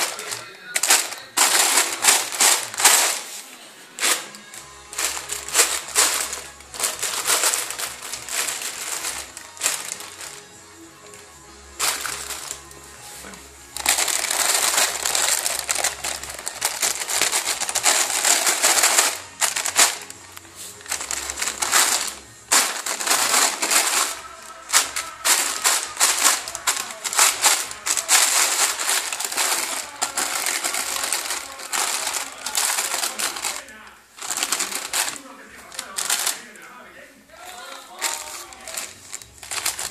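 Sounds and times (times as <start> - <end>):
plastic bag rustling: 0.0 - 39.9.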